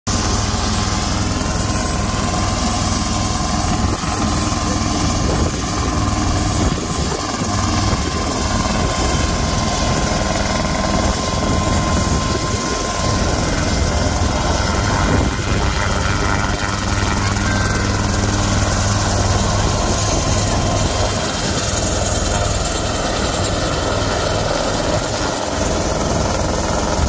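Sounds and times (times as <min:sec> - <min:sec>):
helicopter engine and rotor: 0:00.1 - 0:27.0.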